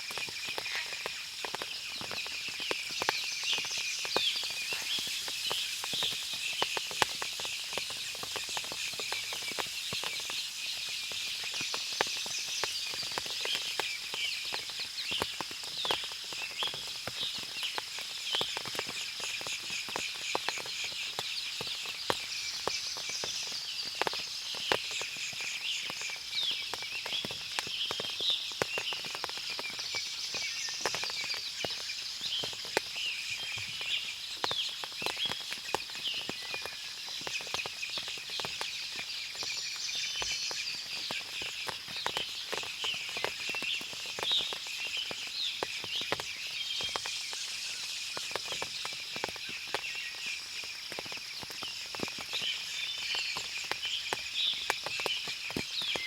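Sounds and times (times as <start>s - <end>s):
water dripping from trees: 0.0s - 56.0s.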